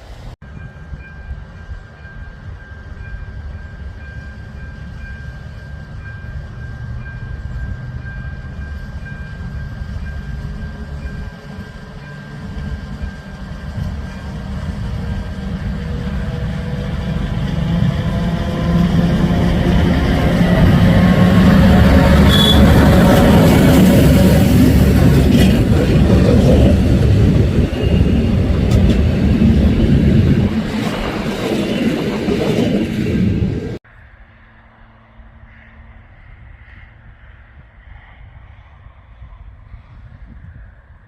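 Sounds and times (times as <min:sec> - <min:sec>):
railway locomotive rumble: 0:00.0 - 0:41.0.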